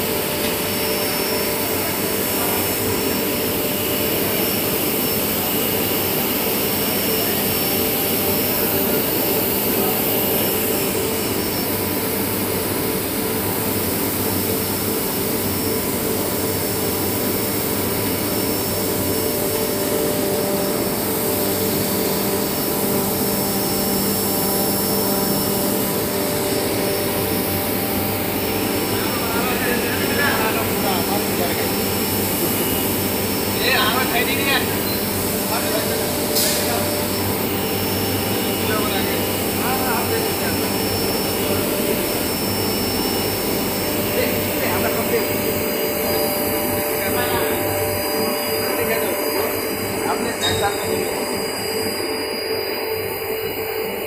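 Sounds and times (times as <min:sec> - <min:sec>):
industrial washing machines droning: 0:00.0 - 0:54.0
steady machine hums: 0:00.0 - 0:54.0.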